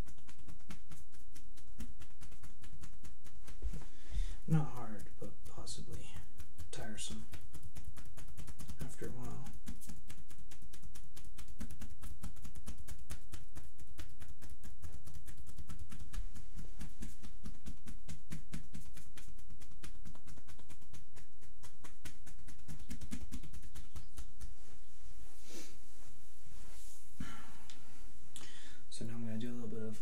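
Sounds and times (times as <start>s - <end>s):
hands slapping skin: 0.0s - 24.8s.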